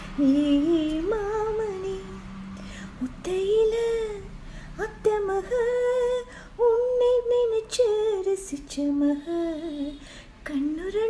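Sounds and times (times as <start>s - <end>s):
woman singing: 0.0s - 2.2s, 2.9s - 11.0s.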